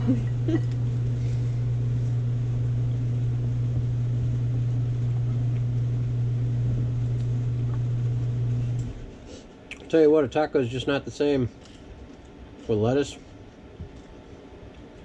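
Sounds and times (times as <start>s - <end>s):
electrical hum from appliance: 0.0s - 15.0s.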